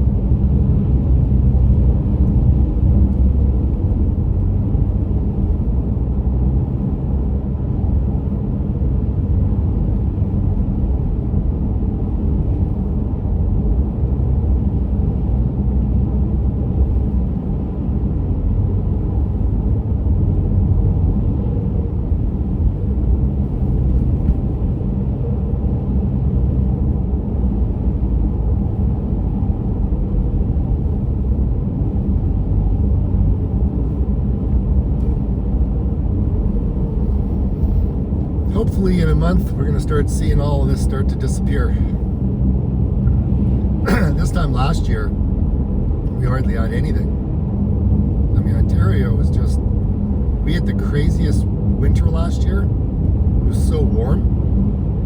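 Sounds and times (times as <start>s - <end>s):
car road rumble: 0.0s - 55.0s.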